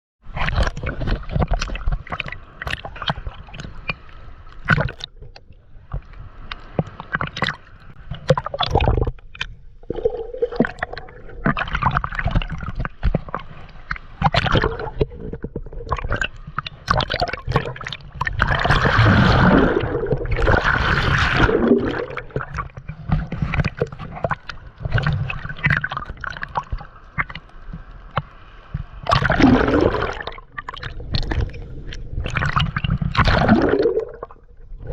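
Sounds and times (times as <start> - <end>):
sea water lapping and gurgling: 0.2 - 34.9
small water splashes: 0.3 - 34.9.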